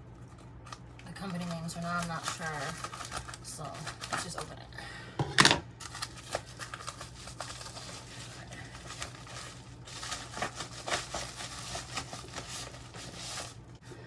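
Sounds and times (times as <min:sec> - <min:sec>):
packaging rustling and crinkling: 0:00.2 - 0:04.5, 0:05.8 - 0:13.7.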